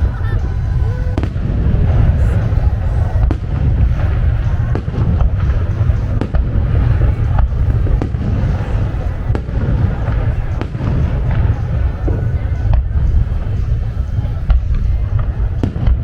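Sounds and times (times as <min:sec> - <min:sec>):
fireworks rumbling: 0:00.0 - 0:16.0
sharp firework cracks: 0:01.0 - 0:16.0.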